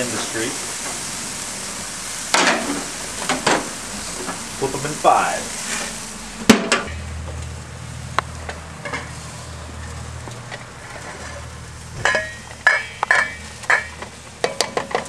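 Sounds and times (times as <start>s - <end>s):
steak sizzling on a grill: 0.0s - 15.0s.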